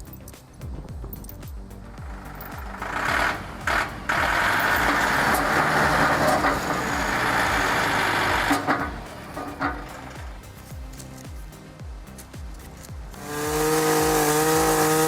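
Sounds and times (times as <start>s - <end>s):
background music: 0.0s - 15.0s
engine roaring under load: 0.1s - 11.2s, 12.0s - 15.0s.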